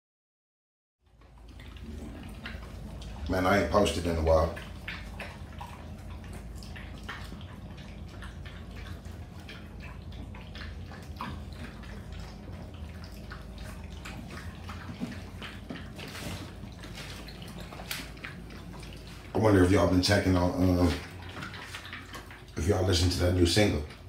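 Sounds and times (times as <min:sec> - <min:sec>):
low steady hum: 0:01.0 - 0:24.0
puppies chewing from metal bowls: 0:01.0 - 0:24.0.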